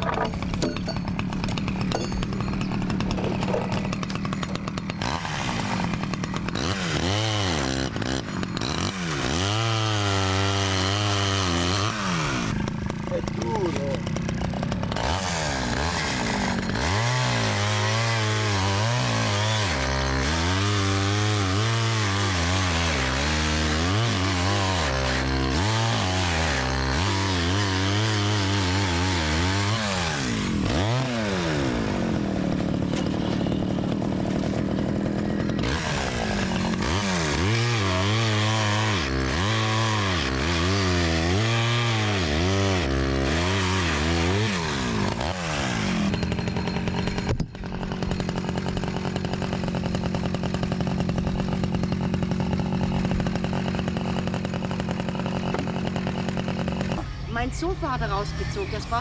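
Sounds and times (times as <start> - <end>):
chainsaw cutting timber: 0.0 - 59.0.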